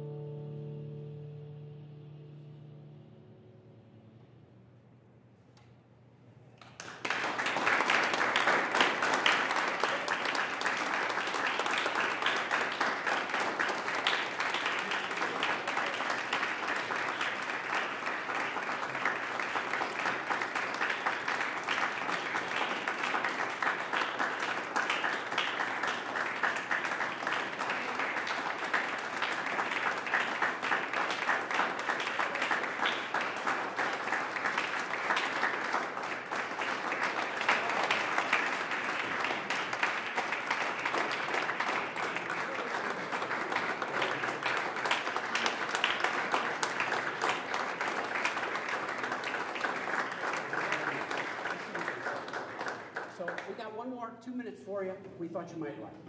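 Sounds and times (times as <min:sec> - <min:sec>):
audience applauding: 0:06.6 - 0:54.0.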